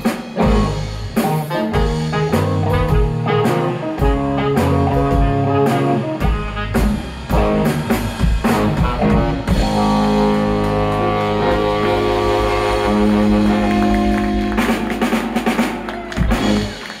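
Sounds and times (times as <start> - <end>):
bass guitar: 0.0 - 17.0
drum kit hits: 0.0 - 17.0
electric guitars: 0.0 - 17.0
saxophone: 0.4 - 17.0.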